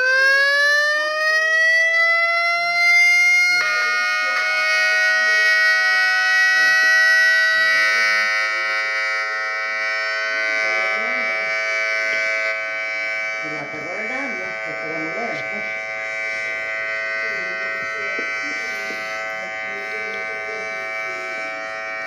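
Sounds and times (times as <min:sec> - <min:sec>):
tornado warning siren wailing: 0:00.0 - 0:22.0.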